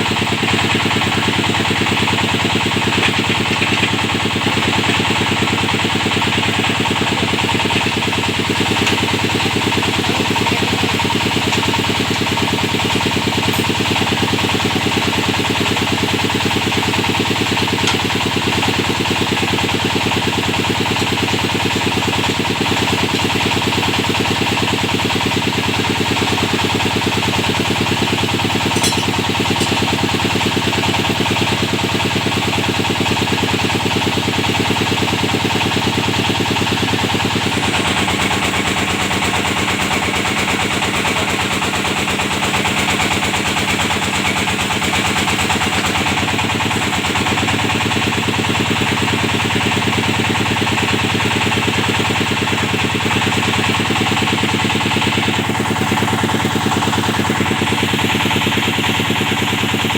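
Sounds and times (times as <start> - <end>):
drilling machine engine chugging: 0.0 - 59.9.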